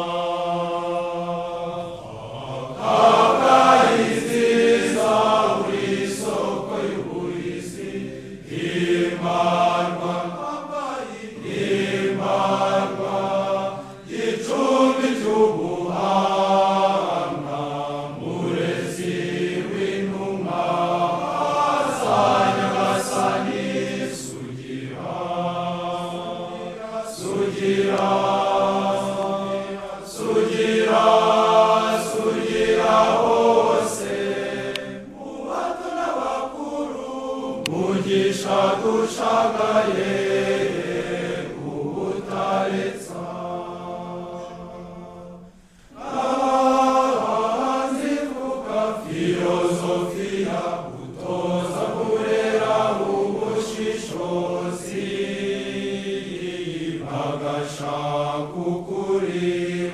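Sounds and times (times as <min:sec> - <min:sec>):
choir singing a slow chant: 0:00.0 - 0:59.9.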